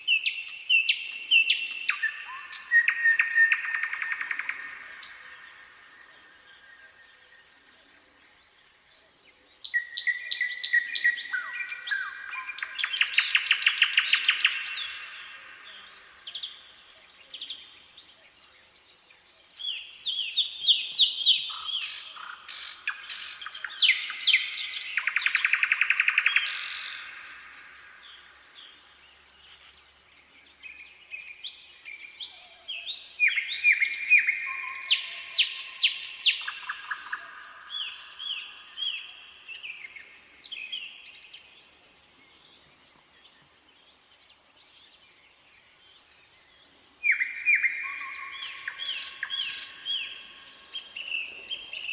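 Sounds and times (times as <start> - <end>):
nightingale singing: 0.0 - 51.9.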